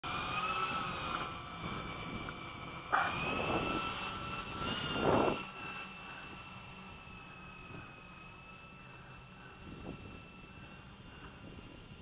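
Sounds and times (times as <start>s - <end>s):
model aircraft motor whine: 0.0s - 12.0s.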